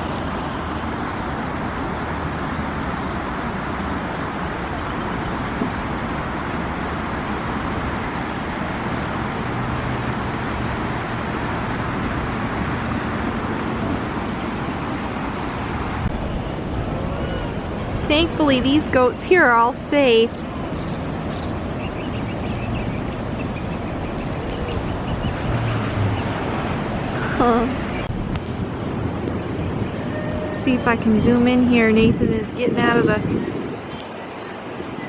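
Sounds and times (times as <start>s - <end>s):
heavy rain and flooding water: 0.0s - 35.0s.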